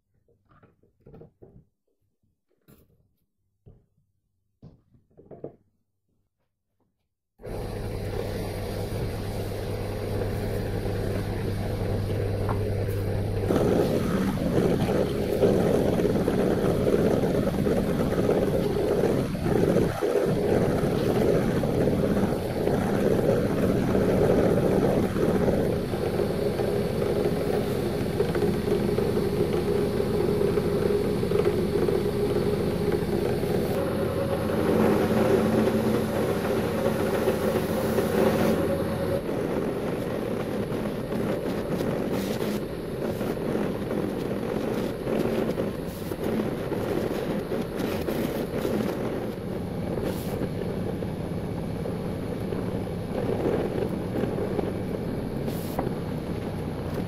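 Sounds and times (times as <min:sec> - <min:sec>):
drill press motor hum: 0:07.4 - 0:57.0.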